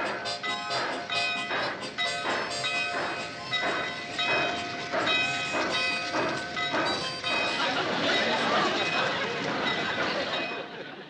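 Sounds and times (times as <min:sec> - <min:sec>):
steam locomotive chugging: 0:00.0 - 0:11.0.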